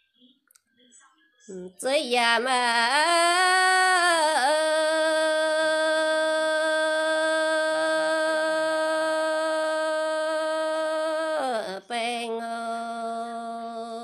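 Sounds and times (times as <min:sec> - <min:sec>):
person singing folk song: 0:01.5 - 0:14.0.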